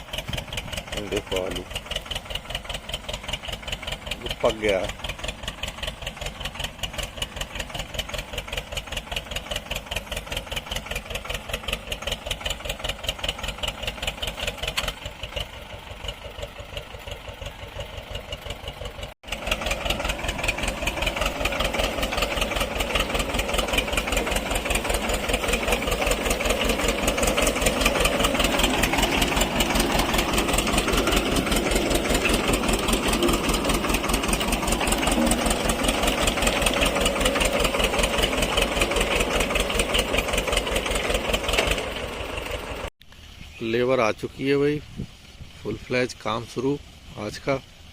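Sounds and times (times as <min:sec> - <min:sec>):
tractor engine chugging: 0:00.0 - 0:43.3.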